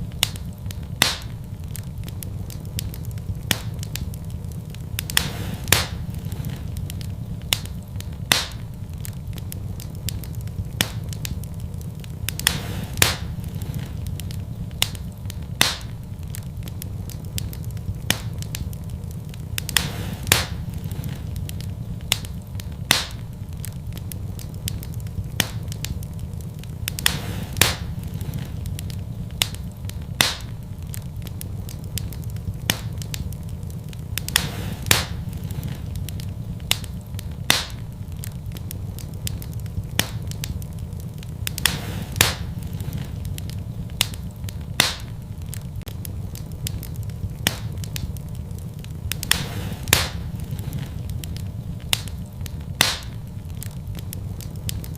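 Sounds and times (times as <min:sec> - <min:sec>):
fire crackling and popping: 0:00.0 - 0:54.9
steady low rumble: 0:00.0 - 0:54.9.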